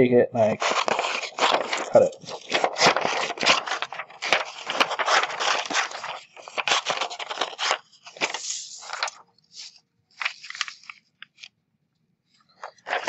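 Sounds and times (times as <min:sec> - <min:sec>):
paper rustling and crackling: 0:00.5 - 0:11.6, 0:12.4 - 0:13.0.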